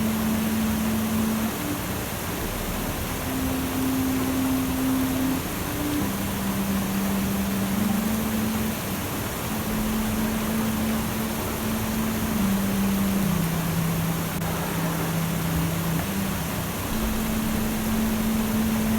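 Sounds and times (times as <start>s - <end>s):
rushing water: 0.0s - 18.9s
soft low held tone: 0.0s - 18.9s.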